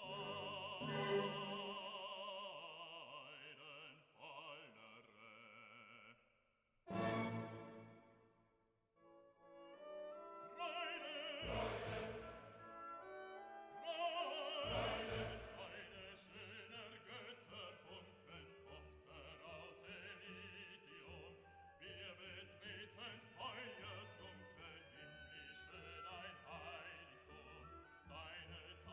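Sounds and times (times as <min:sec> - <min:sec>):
classical singing voice: 0:00.0 - 0:06.2, 0:10.1 - 0:28.9.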